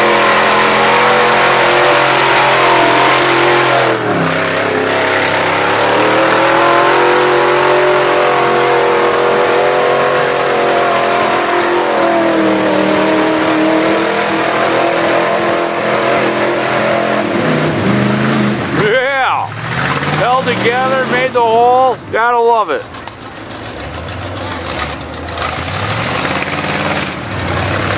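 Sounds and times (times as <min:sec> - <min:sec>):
truck engine at high revs: 0:00.0 - 0:27.9.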